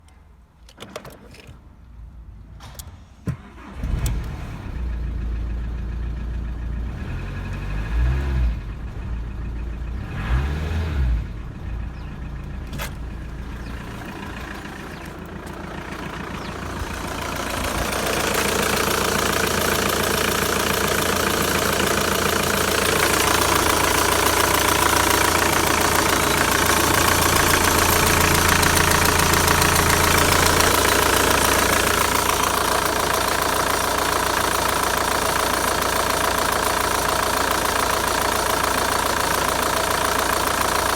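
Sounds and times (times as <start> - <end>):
diesel engine starting: 2.4 - 40.9
diesel engine idling and revving: 3.3 - 40.9.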